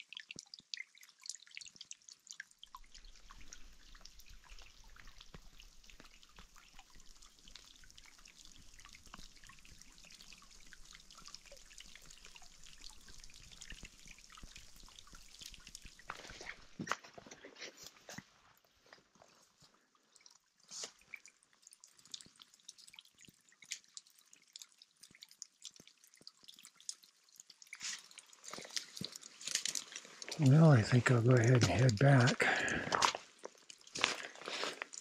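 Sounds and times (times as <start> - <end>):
water dripping: 0.0 - 35.0.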